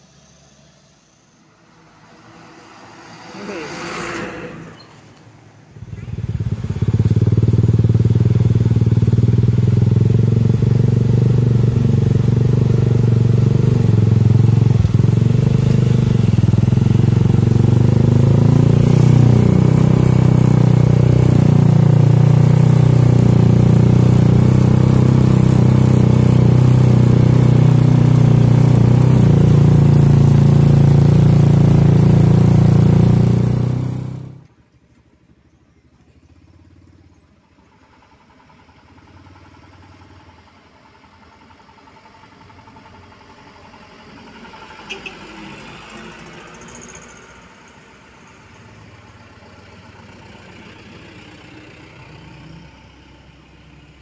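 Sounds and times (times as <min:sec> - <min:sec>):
dump truck engine: 0:00.0 - 0:35.1, 0:36.4 - 0:54.0
vehicle engine drone: 0:00.0 - 0:54.0.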